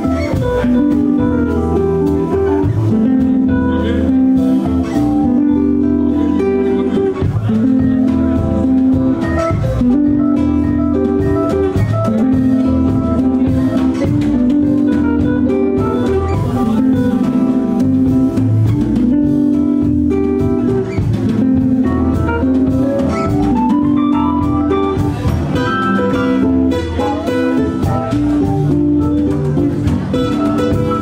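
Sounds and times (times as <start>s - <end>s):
drum kit beat: 0.0s - 31.0s
guitar: 0.0s - 31.0s
melody of held notes: 0.0s - 31.0s.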